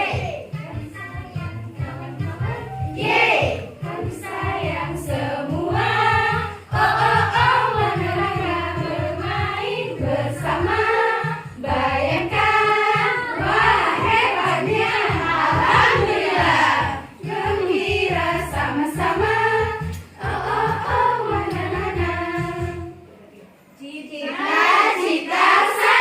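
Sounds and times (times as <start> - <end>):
group of voices singing: 0.0 - 23.1, 24.3 - 26.0
musical accompaniment: 0.0 - 23.3.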